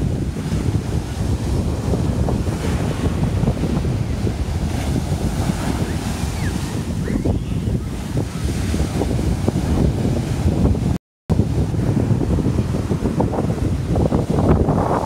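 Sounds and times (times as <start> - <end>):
surf washing onto beach: 0.0 - 15.0
wind buffeting the microphone: 0.0 - 15.0.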